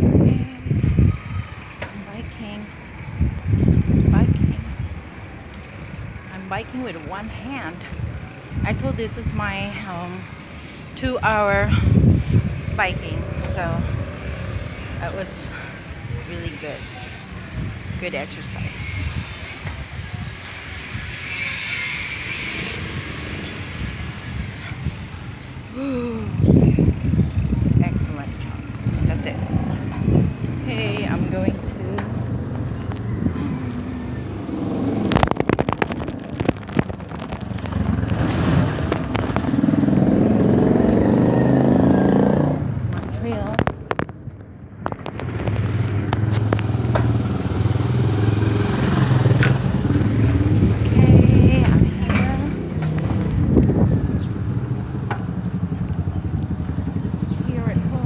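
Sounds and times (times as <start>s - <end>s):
bicycle road noise on concrete: 0.0s - 58.0s
wind rumble on microphone: 0.0s - 58.0s.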